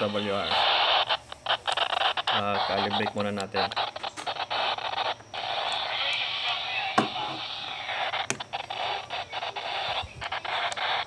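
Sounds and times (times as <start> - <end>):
radio static hiss: 0.0 - 11.0
sharp clicks: 1.0 - 11.0.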